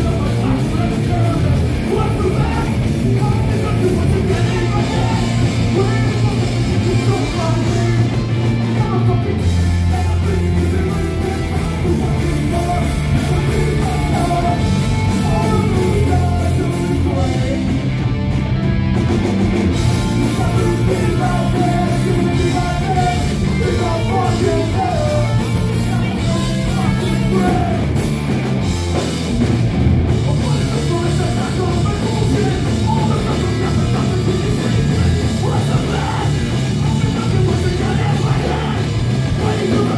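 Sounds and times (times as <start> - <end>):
person singing: 0.0 - 17.8, 19.9 - 27.9, 30.2 - 39.9
rock band playing live: 0.0 - 39.9.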